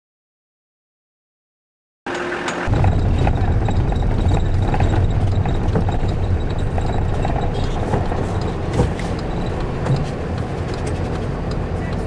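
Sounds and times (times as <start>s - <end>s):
constant road hiss: 2.1s - 12.0s
car road and engine rumble: 2.2s - 12.0s.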